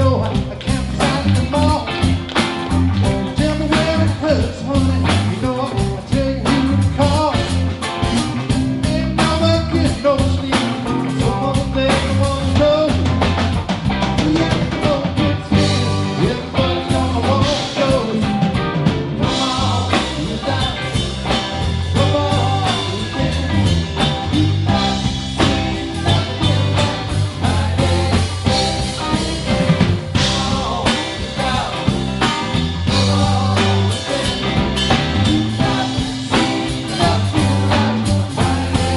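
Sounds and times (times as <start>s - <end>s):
blues-rock band playing: 0.0s - 38.9s
wavering electric guitar lead: 0.0s - 38.9s.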